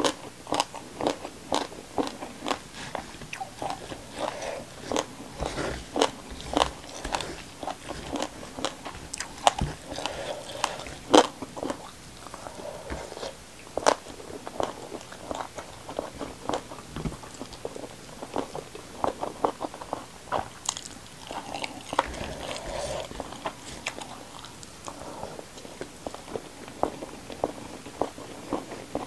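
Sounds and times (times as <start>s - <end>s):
chewing crunchy vegetables: 0.0s - 29.0s.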